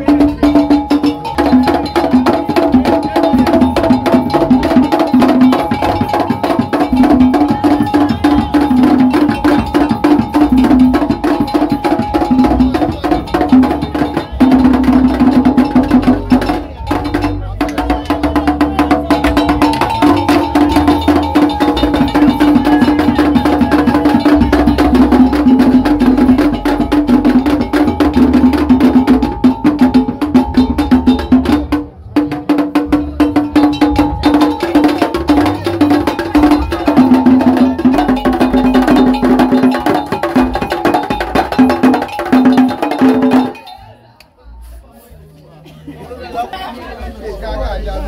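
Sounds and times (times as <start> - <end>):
fast clicking percussion: 0.0 - 44.3.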